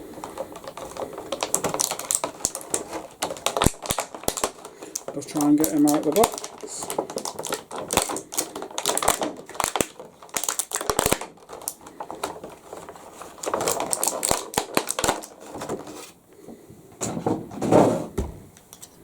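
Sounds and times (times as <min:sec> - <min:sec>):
packaging crinkling: 0:00.0 - 0:16.2.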